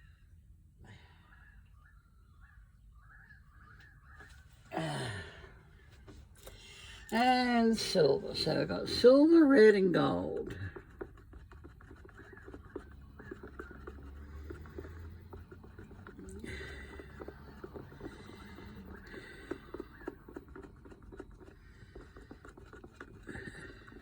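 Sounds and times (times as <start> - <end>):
low steady background hum: 0.0 - 24.0.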